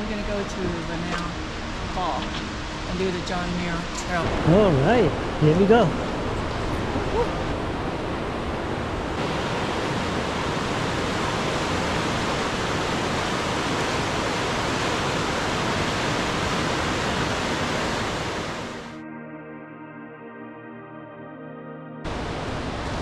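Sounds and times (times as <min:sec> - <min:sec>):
fast-flowing river water rushing: 0:00.0 - 0:18.9, 0:22.1 - 0:23.0.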